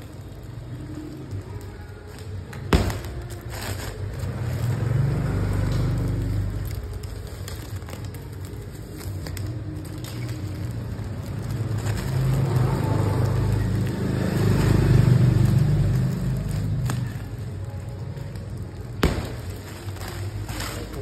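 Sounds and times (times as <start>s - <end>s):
plastic wrap crinkling: 0.0s - 21.0s
scissors cutting plastic: 0.9s - 21.0s.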